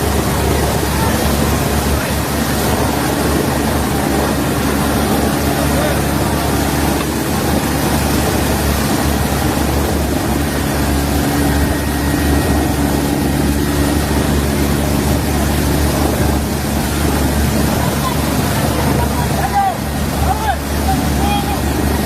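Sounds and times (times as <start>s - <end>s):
loud engine drone: 0.0s - 22.0s.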